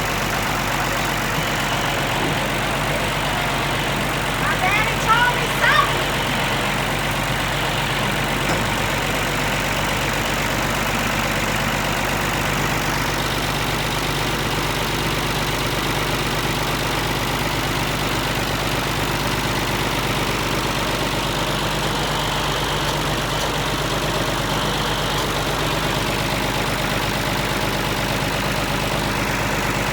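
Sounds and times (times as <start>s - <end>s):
tractor engine idling: 0.0s - 29.9s.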